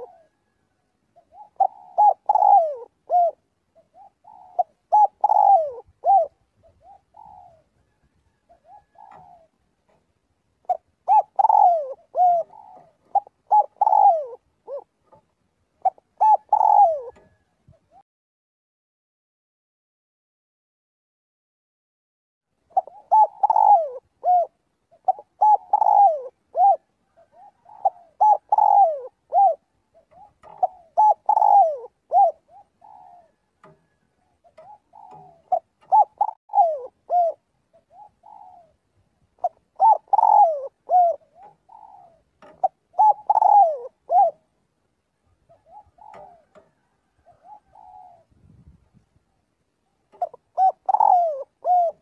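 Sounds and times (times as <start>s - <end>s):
dove cooing: 0.0s - 18.0s, 22.6s - 48.7s, 49.3s - 52.0s.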